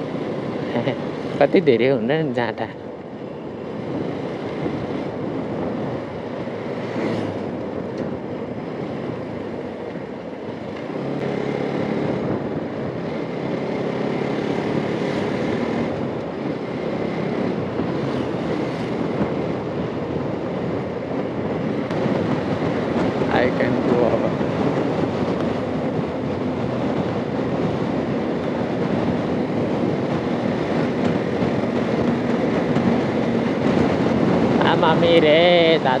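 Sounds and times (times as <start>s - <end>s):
wind and road rush: 0.0s - 36.0s
motorcycle engine running: 3.3s - 36.0s.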